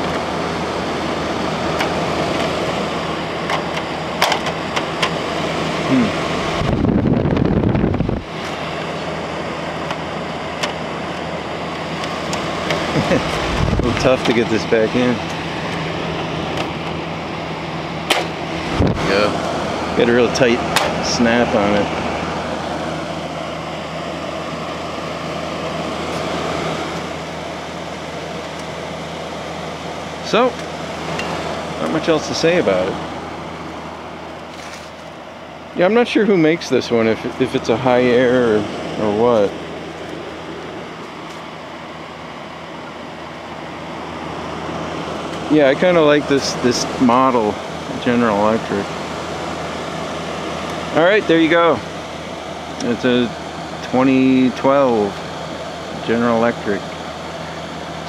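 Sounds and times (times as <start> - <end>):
air conditioner fan noise: 0.0 - 58.0
low hum: 0.0 - 58.0.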